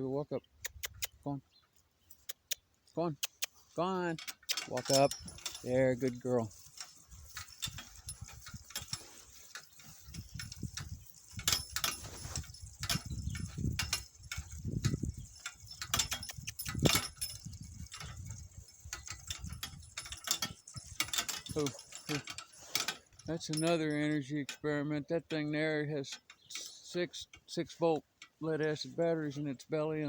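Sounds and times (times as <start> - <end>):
metallic clinks of harness and cart: 1.7 - 30.0.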